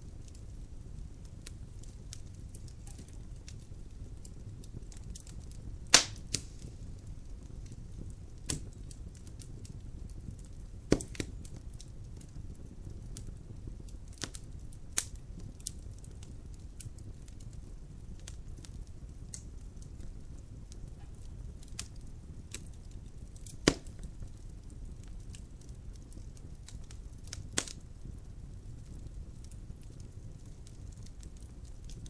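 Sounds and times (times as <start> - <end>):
wood fire crackling: 0.0 - 32.0
sharp pops of fire: 0.2 - 32.0.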